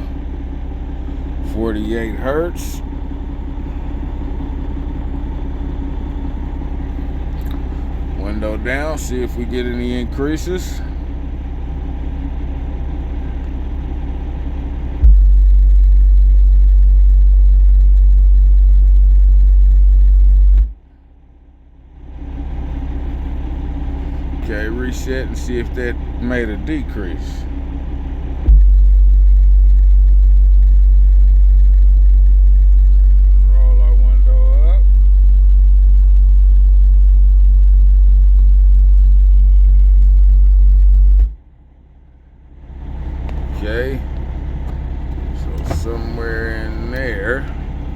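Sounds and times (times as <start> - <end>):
loud bass test tone: 0.0 - 21.0, 22.6 - 47.9
faint pulsing buzz: 0.0 - 47.9.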